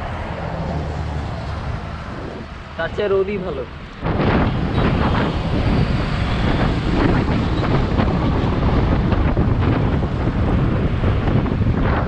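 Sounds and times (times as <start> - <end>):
motorbikes: 0.0 - 12.0
road traffic: 0.0 - 12.0
wind buffeting microphone: 0.0 - 12.0.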